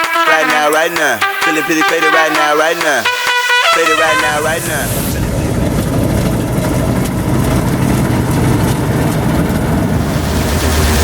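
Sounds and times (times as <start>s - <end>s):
diesel engine rumbling: 1.1s - 11.0s.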